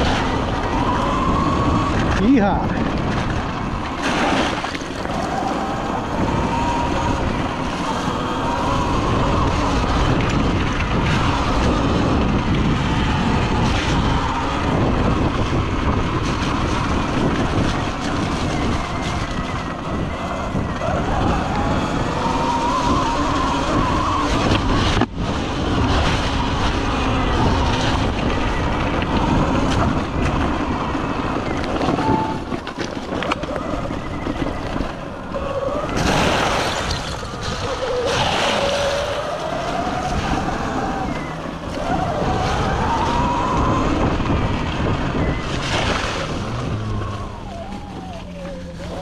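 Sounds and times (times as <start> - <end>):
electric motor whine: 0.0 - 49.0
tyre and wind noise: 0.0 - 49.0.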